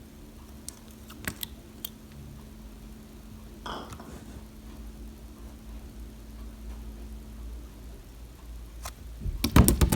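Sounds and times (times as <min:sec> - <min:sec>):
faint constant tone: 0:00.0 - 0:09.9
steady low hum: 0:00.0 - 0:09.9.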